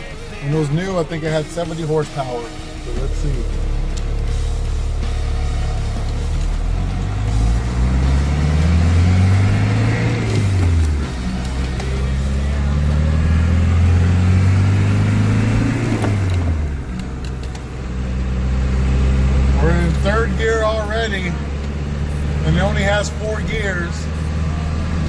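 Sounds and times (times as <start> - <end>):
diesel engine accelerating: 0.0 - 25.0.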